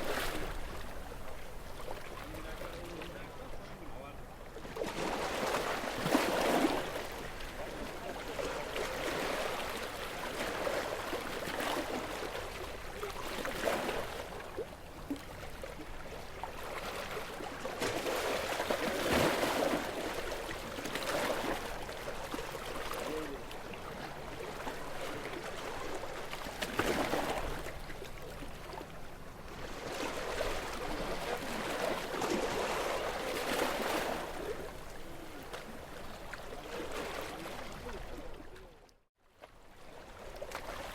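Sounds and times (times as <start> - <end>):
small sea waves breaking on shore: 0.0 - 40.9.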